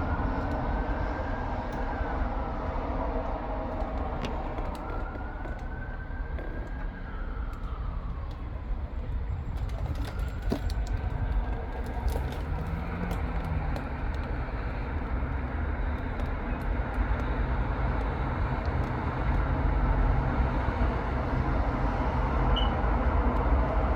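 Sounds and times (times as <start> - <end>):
faint siren wail: 0.0 - 23.9
road traffic rumble: 0.0 - 23.9.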